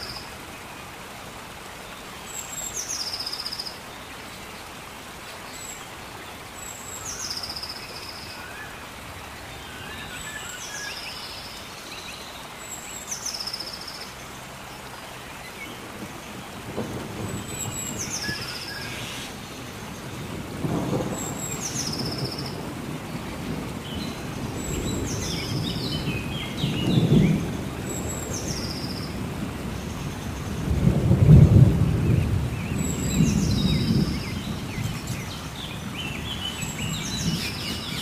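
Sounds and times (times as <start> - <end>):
forest hiss: 0.0 - 38.0.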